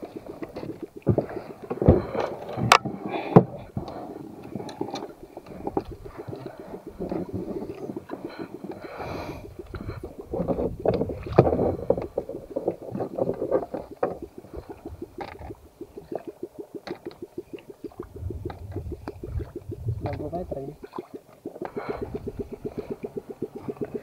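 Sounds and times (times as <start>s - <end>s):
water lapping against boat hull: 0.0s - 24.0s.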